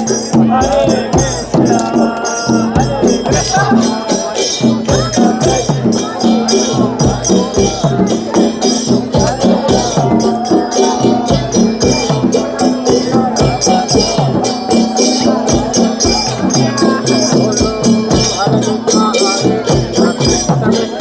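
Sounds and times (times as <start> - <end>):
shaker percussion: 0.0 - 21.0
steady drum beat: 0.0 - 21.0.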